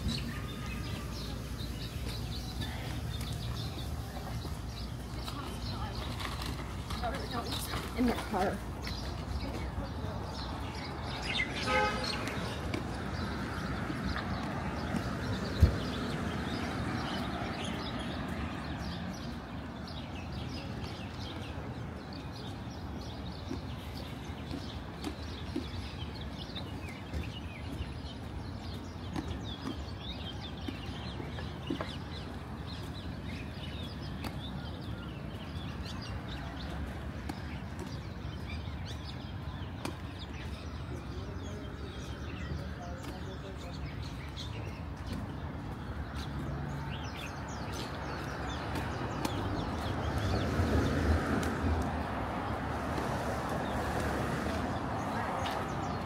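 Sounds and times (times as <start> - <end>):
birds calling and chirping: 0.0 - 56.0
low street rumble: 0.0 - 56.0.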